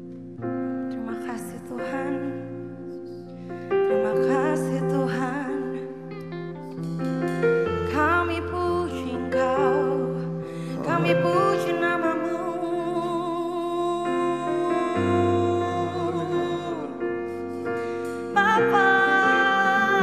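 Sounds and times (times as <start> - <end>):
keyboard sustained chords: 0.0 - 20.0
woman singing: 0.9 - 3.2, 3.8 - 6.2, 7.7 - 20.0.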